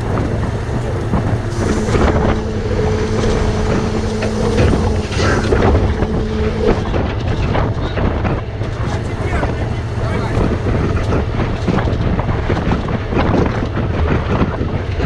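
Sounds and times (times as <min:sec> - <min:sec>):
steady whine: 0:00.0 - 0:12.3
truck engine running: 0:00.0 - 0:13.9
wind buffeting microphone: 0:00.0 - 0:15.0.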